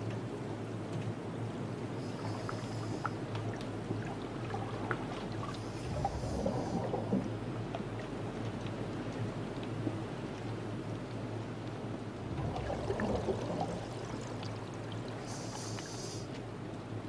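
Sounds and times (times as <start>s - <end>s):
constant low hum: 0.0s - 17.0s
underwater water noise: 1.3s - 17.0s
low water swell: 1.8s - 16.4s.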